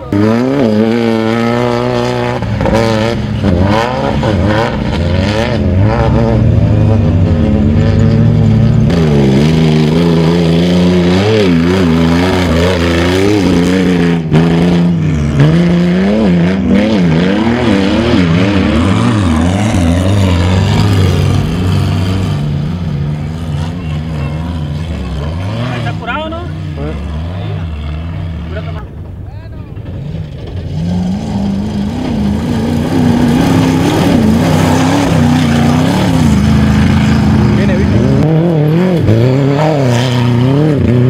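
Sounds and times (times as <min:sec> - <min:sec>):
race engines revving: 0:00.0 - 0:41.0.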